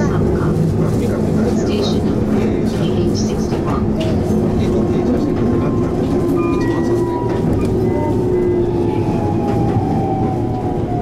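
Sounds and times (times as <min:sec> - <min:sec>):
electric train rumbling on rails: 0:00.0 - 0:11.0.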